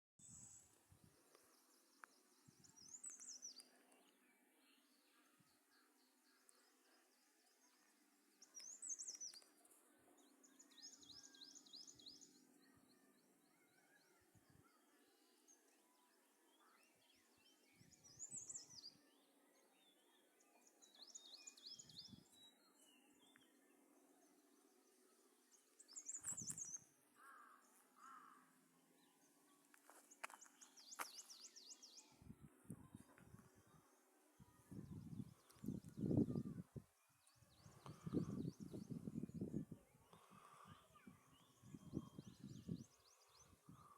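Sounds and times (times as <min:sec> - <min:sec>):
songbird singing: 0:00.2 - 0:43.9.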